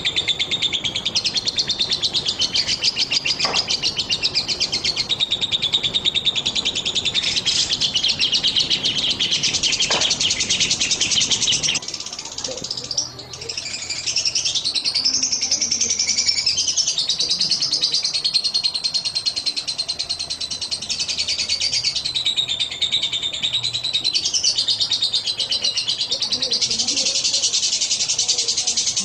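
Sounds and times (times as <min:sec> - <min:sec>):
lovebird chattering: 0:00.0 - 0:29.0.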